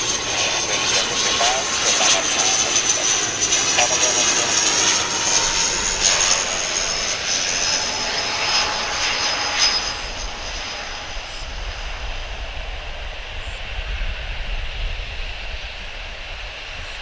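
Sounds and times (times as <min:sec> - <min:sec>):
turboprop engine whine: 0:00.0 - 0:17.0.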